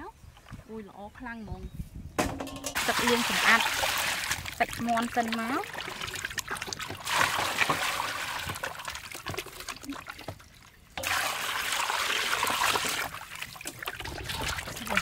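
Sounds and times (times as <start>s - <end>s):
water pouring into basin: 2.8s - 15.0s.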